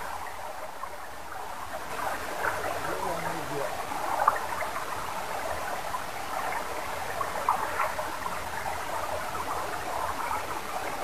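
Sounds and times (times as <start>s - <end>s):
stream water running over rocks: 0.0s - 11.0s.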